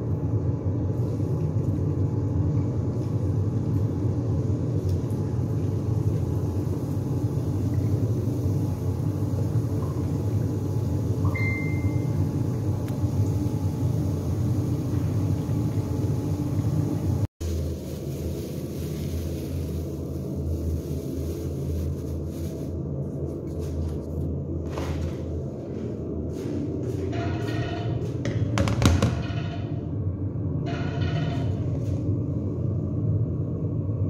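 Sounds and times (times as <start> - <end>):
deep-frying oil rumble: 0.0 - 34.0.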